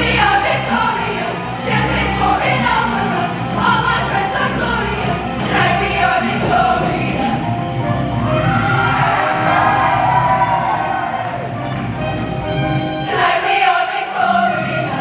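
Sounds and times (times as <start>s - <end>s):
women's choir singing in harmony: 0.0s - 11.4s, 12.5s - 15.0s.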